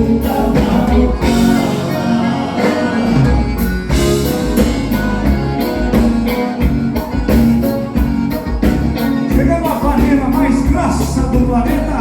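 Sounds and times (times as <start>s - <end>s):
dance band playing: 0.0s - 12.0s
drum kit: 0.0s - 12.0s
guitar: 0.0s - 12.0s.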